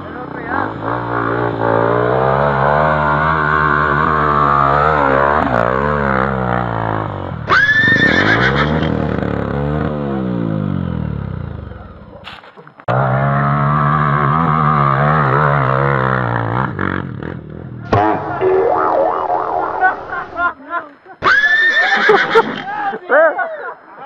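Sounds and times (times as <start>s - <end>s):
off-road motorcycle engine revving: 0.0s - 20.5s.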